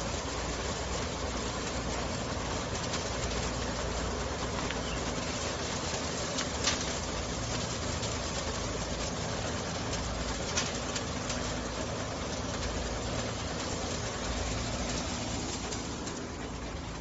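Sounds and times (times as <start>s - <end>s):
road sweeper humming: 0.0s - 17.0s.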